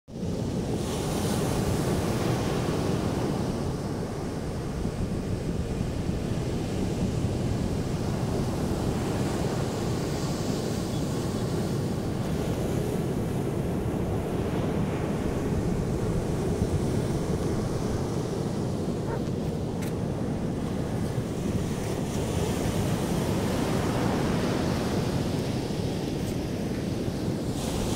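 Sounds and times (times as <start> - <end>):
surf breaking on a beach: 0.2 - 27.9.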